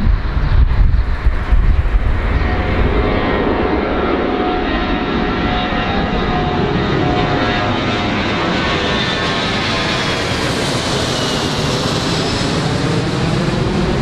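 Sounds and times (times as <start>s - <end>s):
jet airliner roaring overhead: 0.0s - 14.0s.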